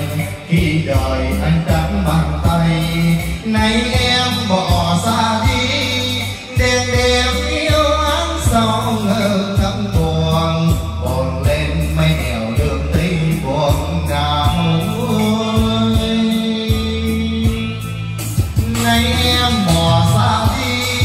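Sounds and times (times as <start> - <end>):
ballad karaoke music over speakers: 0.0 - 21.0
person singing: 0.0 - 21.0.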